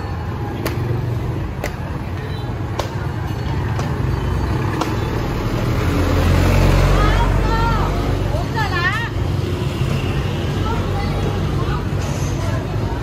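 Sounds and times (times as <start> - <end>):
street rumble: 0.0 - 13.0.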